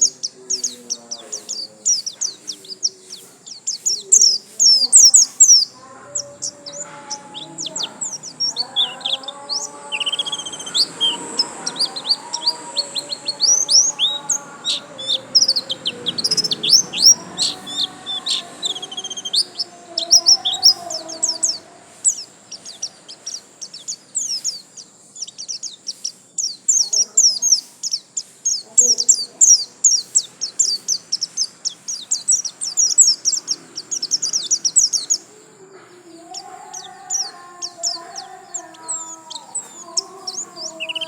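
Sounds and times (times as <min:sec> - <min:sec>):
bird chirping and trilling: 0:00.0 - 0:41.0.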